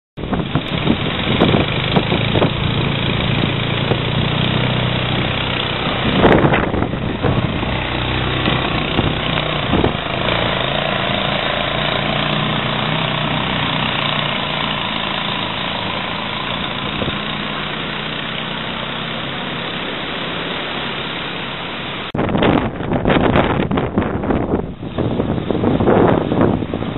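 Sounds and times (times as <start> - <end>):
small engine idling: 0.2 - 22.1.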